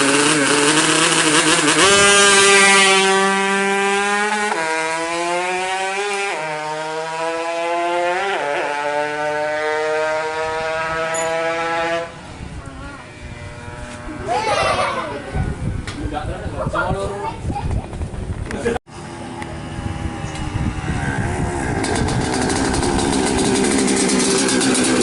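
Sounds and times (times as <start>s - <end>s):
two-stroke motorcycle engine revving: 0.0s - 15.8s, 18.9s - 25.0s.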